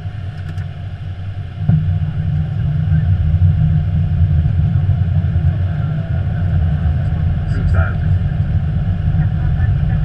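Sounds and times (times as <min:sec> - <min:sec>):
airplane cockpit rumble: 0:00.0 - 0:10.0.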